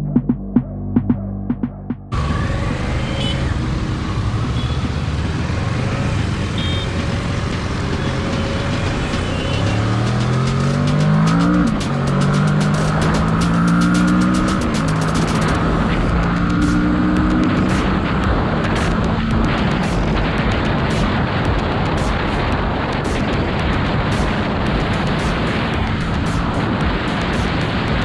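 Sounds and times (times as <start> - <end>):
motorcycle engine accelerating: 2.1 - 28.0
wind rush: 2.1 - 28.0.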